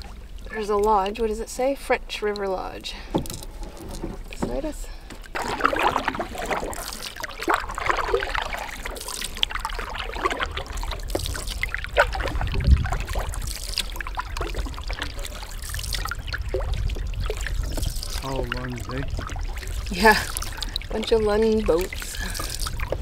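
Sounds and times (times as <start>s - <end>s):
water dripping off paddles: 0.0s - 23.0s
water splashing along hull: 0.0s - 23.0s.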